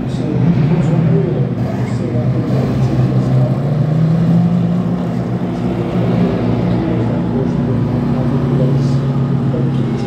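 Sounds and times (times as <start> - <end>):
race car engines passing: 0.0 - 10.0.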